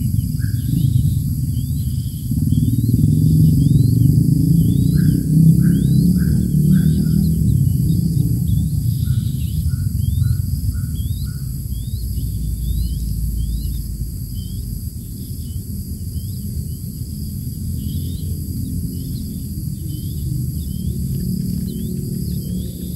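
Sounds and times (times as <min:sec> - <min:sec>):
insect buzz: 0:00.0 - 0:22.9
lower bird notes: 0:00.0 - 0:22.9
steady low rumble: 0:00.0 - 0:22.9.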